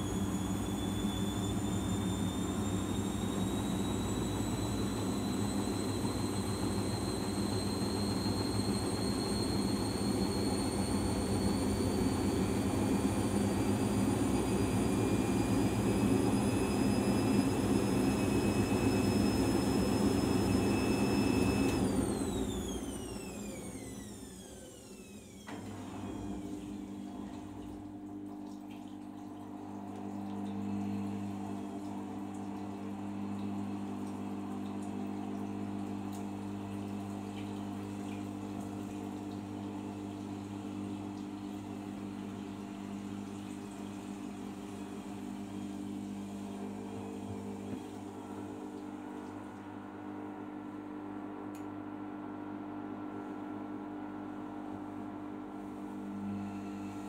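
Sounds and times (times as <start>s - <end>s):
drain pump hum: 0.0s - 57.0s
washing machine spin whine: 0.0s - 57.0s.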